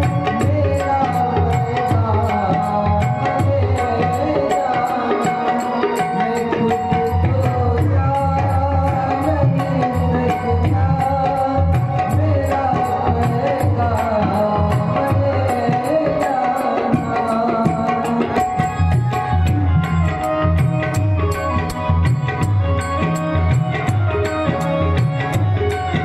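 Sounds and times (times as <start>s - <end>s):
tabla drumming: 0.0s - 26.0s.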